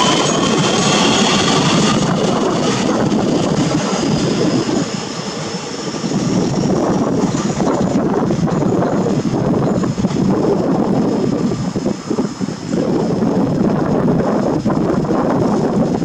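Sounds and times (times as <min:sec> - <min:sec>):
train wheels and motors rushing: 0:00.0 - 0:16.0.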